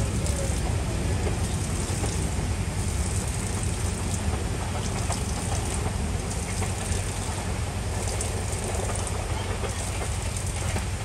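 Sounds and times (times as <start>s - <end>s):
hiss of noise: 0.0s - 11.0s
train rumbling: 0.0s - 11.0s.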